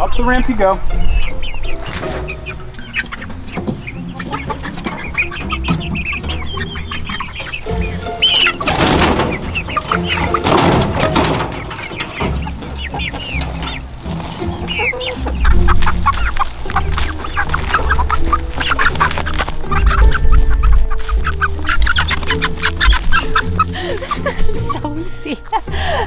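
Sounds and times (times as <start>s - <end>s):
chickens clucking: 0.0s - 26.0s
rustling: 1.2s - 24.6s.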